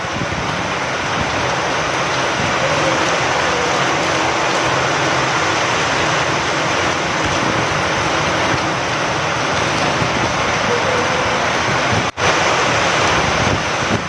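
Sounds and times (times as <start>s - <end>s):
steady rain with wind: 0.0s - 14.0s.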